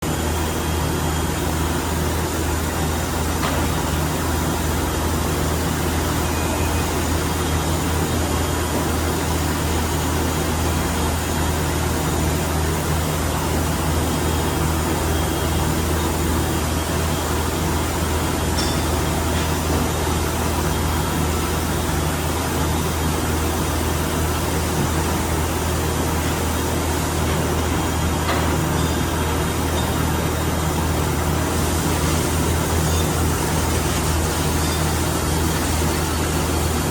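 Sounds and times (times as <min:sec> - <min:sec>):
machine hum with low drone: 0:00.0 - 0:36.9.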